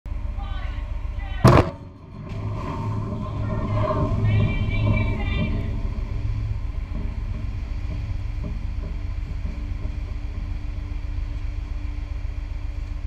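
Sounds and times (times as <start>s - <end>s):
constant hum: 0.1s - 13.0s
ship machinery rumble: 0.1s - 13.0s.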